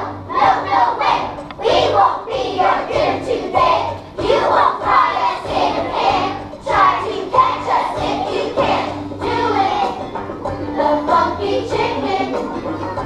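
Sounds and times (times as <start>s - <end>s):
children singing together: 0.0s - 10.2s, 10.8s - 13.0s
musical accompaniment: 0.0s - 13.0s.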